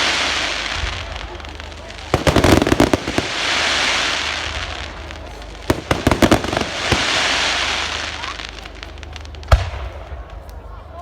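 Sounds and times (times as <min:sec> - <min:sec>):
fireworks hiss: 0:00.0 - 0:10.5
fireworks bangs and crackles: 0:00.0 - 0:11.0.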